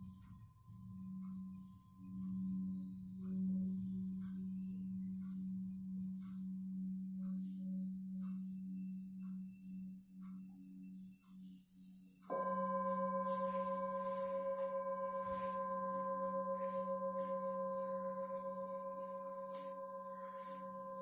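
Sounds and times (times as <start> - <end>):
low steady drone: 0.0 - 21.0
singing bowl ringing: 0.0 - 21.0.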